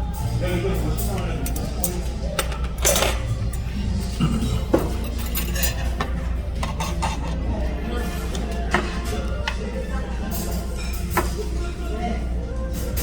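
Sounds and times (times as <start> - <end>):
background music: 0.0 - 13.0
dishes and cutlery clinking: 0.0 - 13.0.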